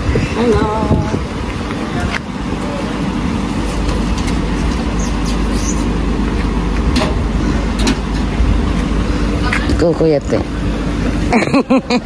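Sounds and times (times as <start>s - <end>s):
car engine idling: 0.0s - 12.0s
footsteps on outdoor stairs: 1.2s - 11.3s.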